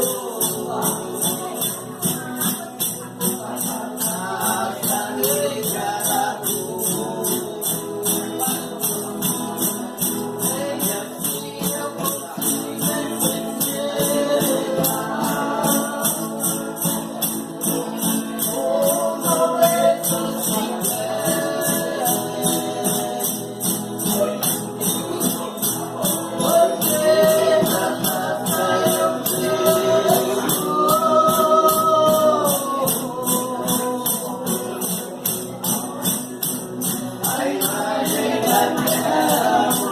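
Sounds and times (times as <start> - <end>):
tambourine jingles: 0.0 - 39.9
voices singing folk song: 0.0 - 39.9.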